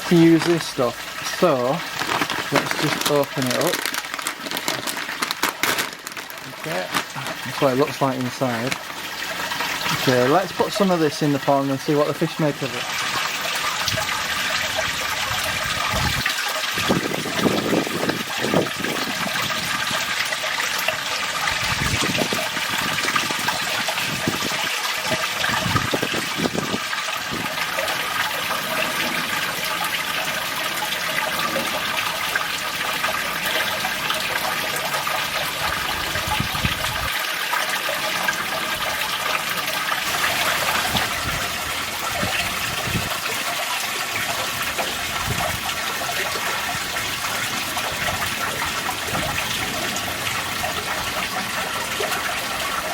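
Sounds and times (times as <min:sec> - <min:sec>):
water splashing into a pond: 0:00.0 - 0:52.9.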